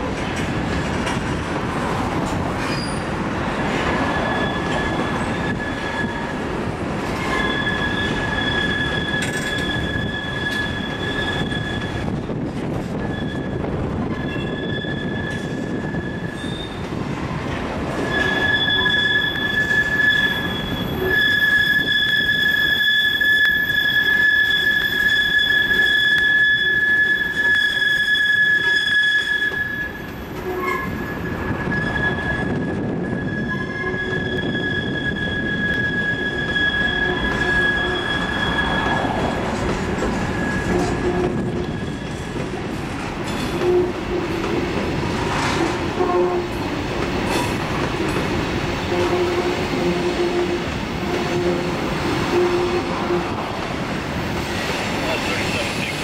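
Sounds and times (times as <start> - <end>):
train wheels rumbling and clattering: 0.0 - 56.0
train wheels squealing on rails: 1.9 - 56.0.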